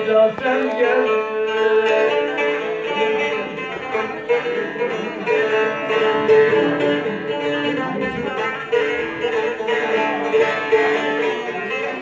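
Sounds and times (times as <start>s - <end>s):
plucked lute melody with drone: 0.0s - 12.0s.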